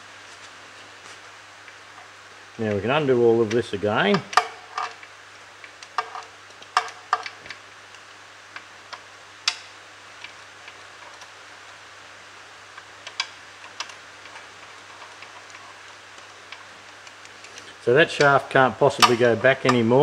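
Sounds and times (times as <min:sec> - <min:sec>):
faint hum and hiss: 0:00.0 - 0:20.0.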